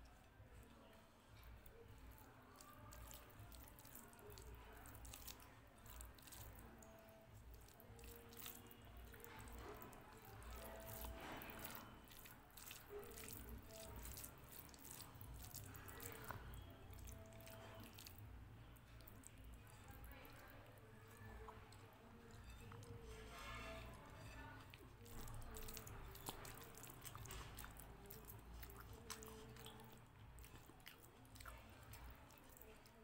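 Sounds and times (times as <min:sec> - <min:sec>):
food squishing by hand: 0:00.0 - 0:33.0.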